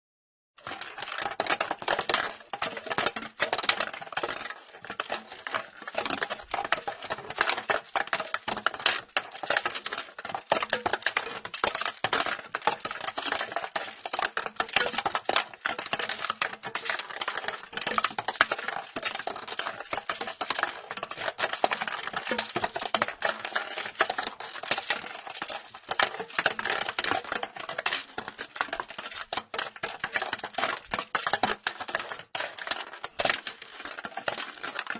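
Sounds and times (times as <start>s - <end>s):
ball rattling in plastic box: 0.6s - 34.9s.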